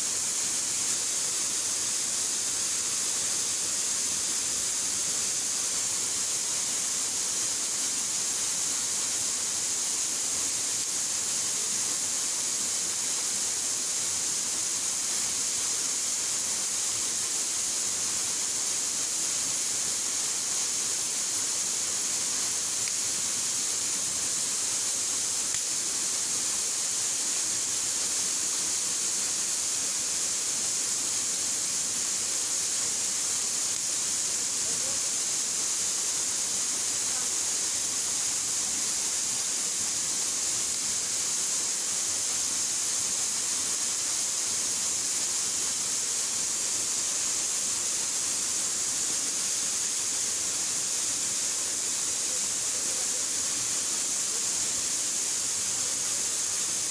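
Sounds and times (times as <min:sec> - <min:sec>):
waterfall splashing into pool: 0:00.0 - 0:56.9.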